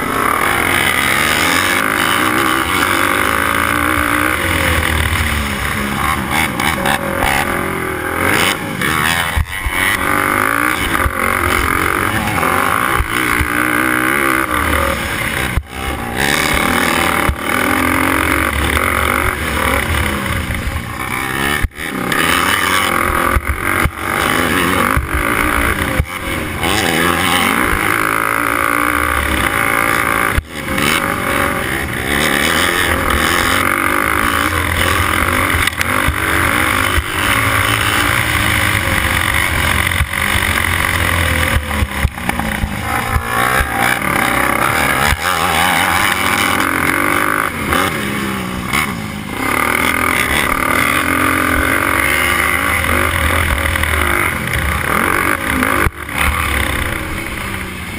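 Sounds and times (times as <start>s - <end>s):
quad engine revving: 0.0s - 57.9s.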